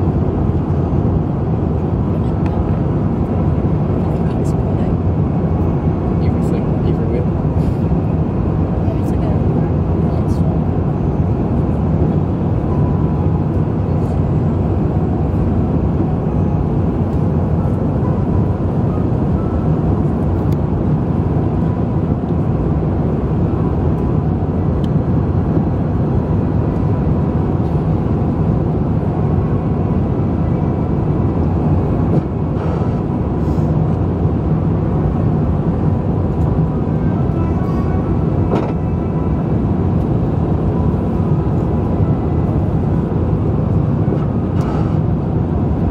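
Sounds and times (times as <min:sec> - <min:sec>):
airplane cabin engine noise: 0:00.0 - 0:45.9.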